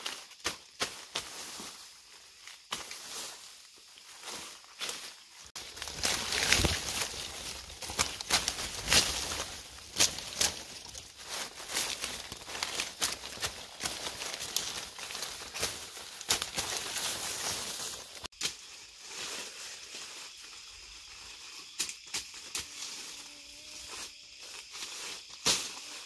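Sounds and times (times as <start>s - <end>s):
dry leaves rustling and crackling: 0.0s - 21.8s.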